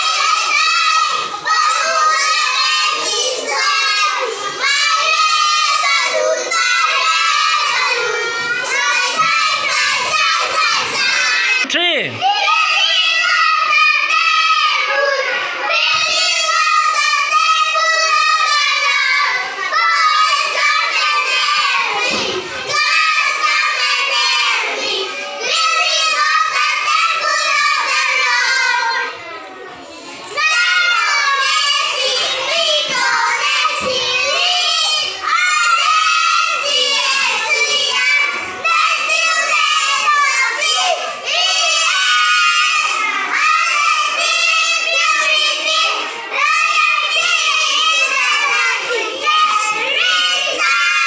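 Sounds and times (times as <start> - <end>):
children singing together: 0.0 - 51.0.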